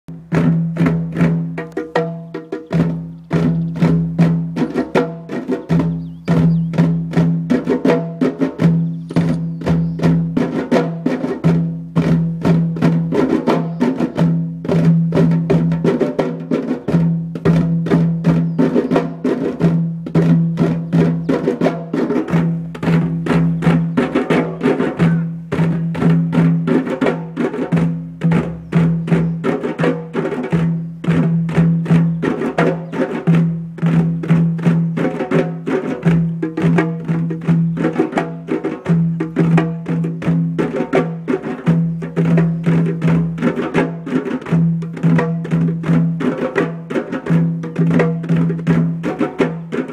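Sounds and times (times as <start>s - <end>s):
djembe hand drums: 0.1s - 49.9s.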